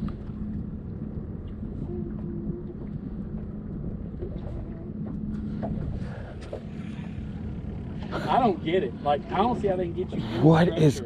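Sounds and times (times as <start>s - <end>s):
constant low hum: 0.0s - 11.0s
low motor rumble: 0.0s - 11.0s.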